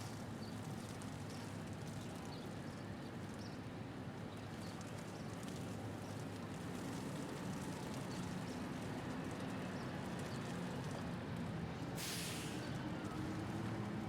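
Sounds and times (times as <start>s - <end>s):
low rumble of city traffic: 0.0s - 14.0s.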